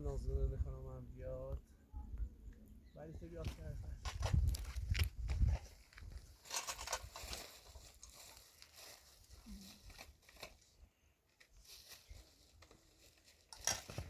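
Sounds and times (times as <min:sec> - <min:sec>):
faint rustling and crinkling: 0:02.5 - 0:14.0.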